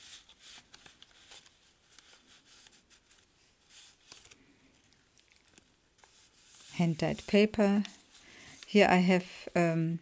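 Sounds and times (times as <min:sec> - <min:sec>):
pages turning: 0:00.0 - 0:08.8
paper and card rustling: 0:00.0 - 0:09.1.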